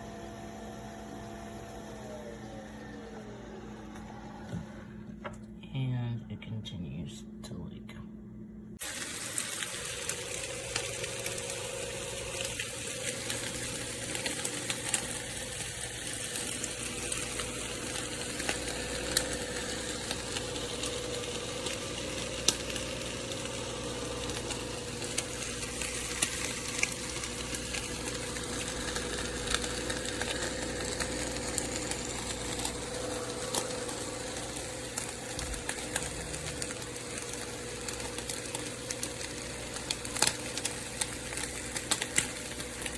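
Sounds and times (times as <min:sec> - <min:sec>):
coffee machine hissing: 0:00.0 - 0:05.1, 0:08.8 - 0:42.9
coffee machine humming: 0:00.0 - 0:05.6, 0:08.6 - 0:42.9.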